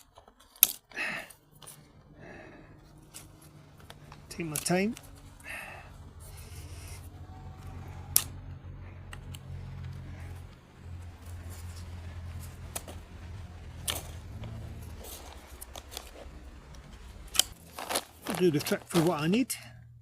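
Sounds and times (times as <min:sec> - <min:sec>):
twigs snapping: 0:00.0 - 0:19.5
low steady rumble: 0:01.0 - 0:20.0.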